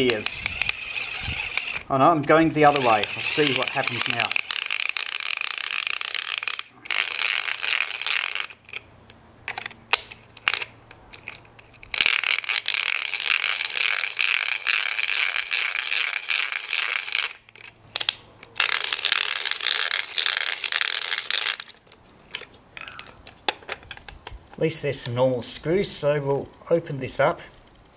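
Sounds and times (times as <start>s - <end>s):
plastic gears rattling and clicking: 0.0s - 1.9s, 2.6s - 8.8s, 9.5s - 24.2s.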